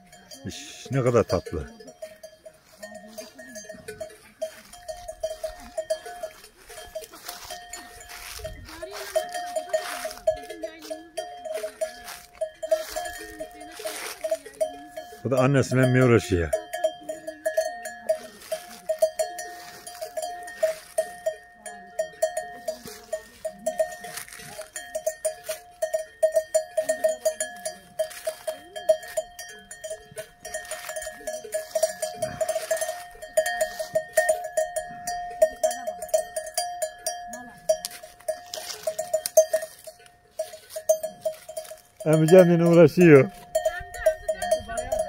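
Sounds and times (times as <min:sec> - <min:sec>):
cow bell clanking: 0:00.0 - 0:45.0
vegetation rustling: 0:01.2 - 0:45.0.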